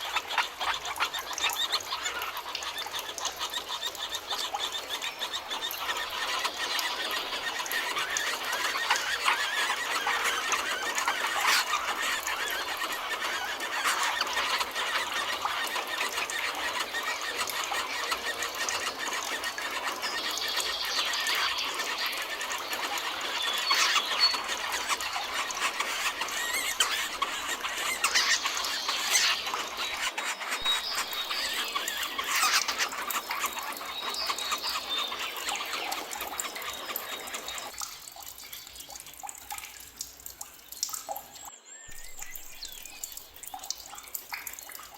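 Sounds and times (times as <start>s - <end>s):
forest birds singing: 0.0s - 39.9s, 40.6s - 44.9s.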